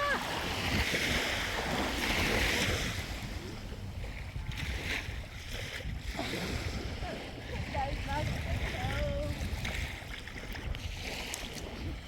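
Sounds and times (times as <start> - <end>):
waves washing onto beach: 0.0 - 12.0
wind rumbling on microphone: 0.0 - 12.0.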